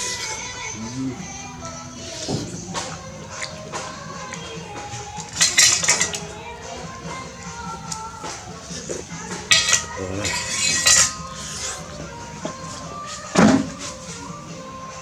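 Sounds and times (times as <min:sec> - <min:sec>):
cutlery clinking against dishes: 0:01.9 - 0:14.6.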